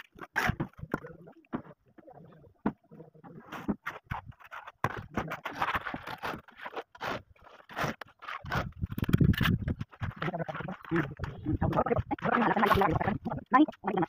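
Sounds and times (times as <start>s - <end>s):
wet concrete scraping: 0.0s - 14.0s.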